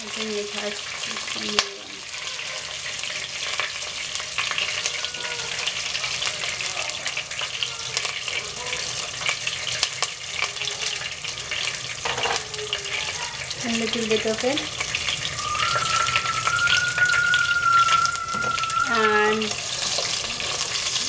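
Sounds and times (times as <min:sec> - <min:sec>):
food sizzling in hot oil: 0:00.0 - 0:21.0
oil crackling: 0:00.0 - 0:21.0.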